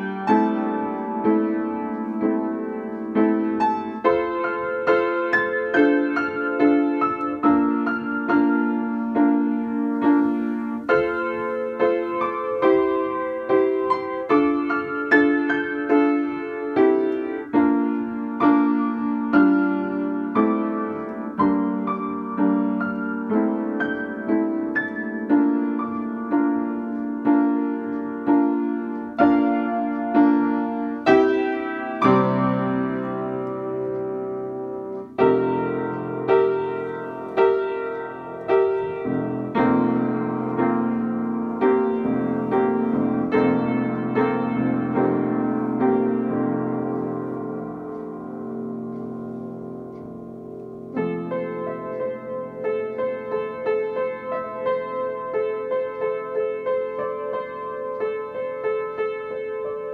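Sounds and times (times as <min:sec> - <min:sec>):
slow gentle piano piece: 0:00.0 - 0:59.9.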